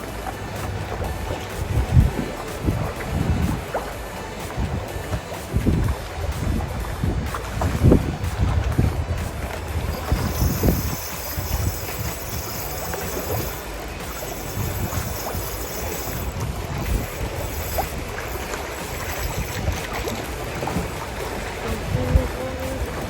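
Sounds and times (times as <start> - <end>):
water lapping against boat: 0.0 - 23.0
wind rumbling on microphone: 0.0 - 23.0.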